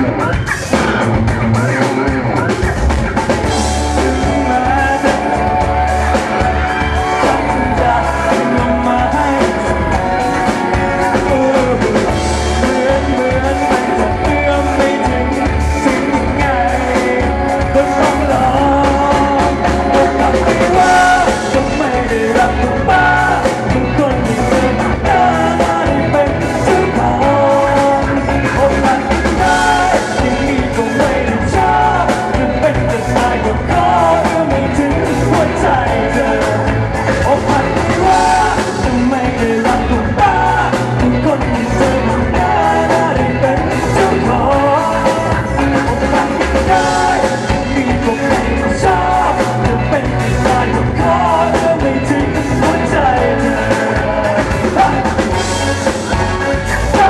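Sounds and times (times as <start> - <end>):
man singing into microphone: 0.0 - 2.9, 3.5 - 57.0
drums: 0.0 - 57.0
electric guitar: 0.0 - 57.0.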